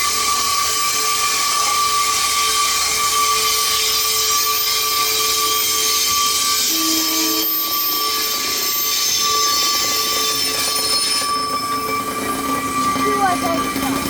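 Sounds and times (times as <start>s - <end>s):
constant high whine: 0.0s - 14.0s.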